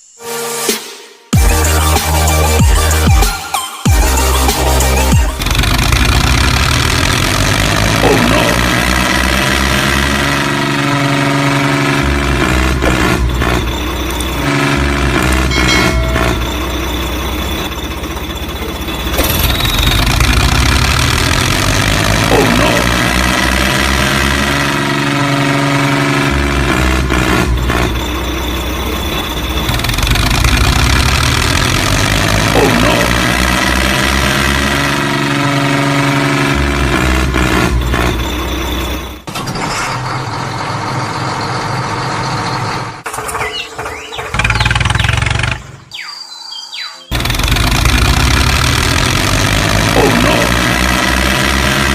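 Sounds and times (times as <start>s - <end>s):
tractor engine revving: 3.9s - 46.0s, 46.7s - 51.9s.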